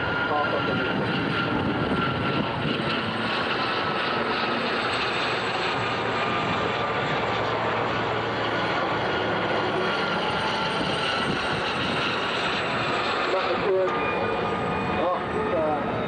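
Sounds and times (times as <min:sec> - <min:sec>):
aircraft engines droning overhead: 0:00.0 - 0:16.0.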